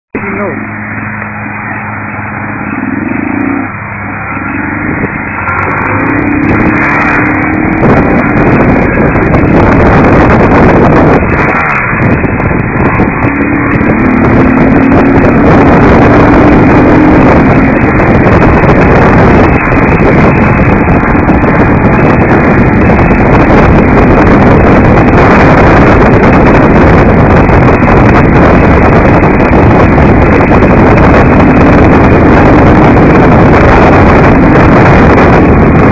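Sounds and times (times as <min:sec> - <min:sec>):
faint motorcycle engine: 0:00.1 - 0:35.9
wind and road noise: 0:00.1 - 0:35.9.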